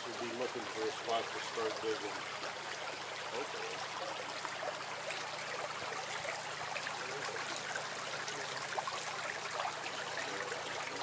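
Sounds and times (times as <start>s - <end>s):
creek flowing over stones: 0.0s - 11.0s.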